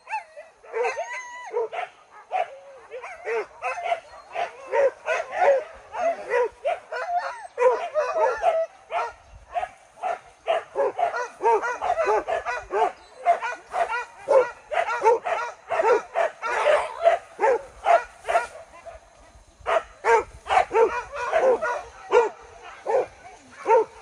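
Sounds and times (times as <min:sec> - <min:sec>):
dogs yelping and barking: 0:00.0 - 0:19.1, 0:19.7 - 0:24.0.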